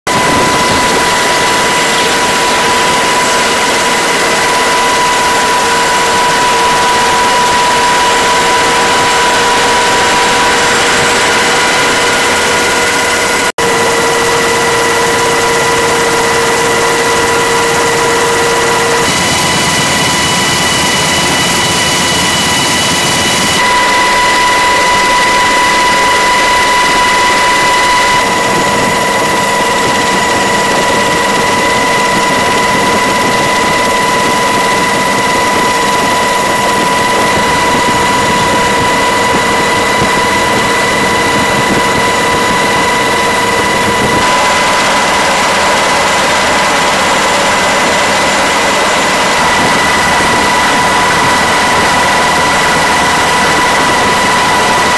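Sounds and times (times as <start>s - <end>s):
turbine aircraft engine whine: 0.0s - 54.9s.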